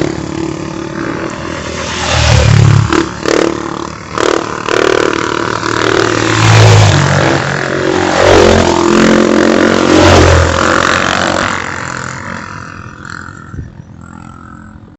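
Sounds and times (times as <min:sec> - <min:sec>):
motorcycle engines revving: 0:00.0 - 0:14.9.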